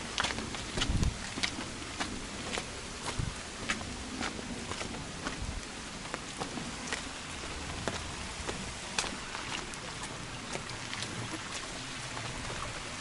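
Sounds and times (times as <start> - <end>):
footsteps on muddy trail: 0.0 - 13.0
rain hiss: 0.0 - 13.0.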